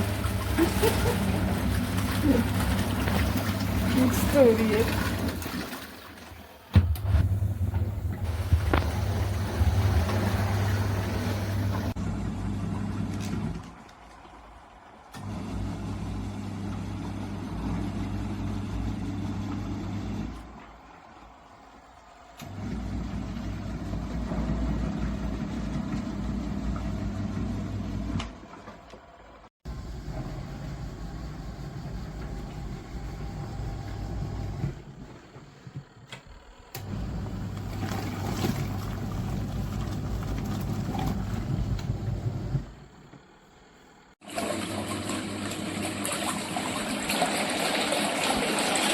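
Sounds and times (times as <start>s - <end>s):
washing machine motor humming: 0.0s - 48.9s.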